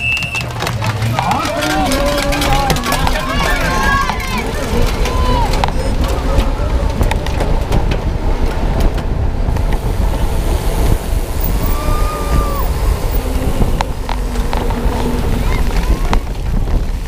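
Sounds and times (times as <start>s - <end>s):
tyres rolling on pavement: 0.0s - 17.0s
wind noise on microphone: 1.6s - 17.0s.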